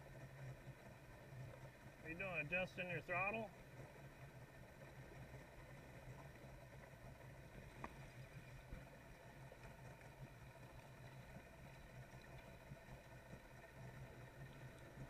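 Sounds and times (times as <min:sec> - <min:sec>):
personal watercraft engine drone: 0:00.0 - 0:15.0.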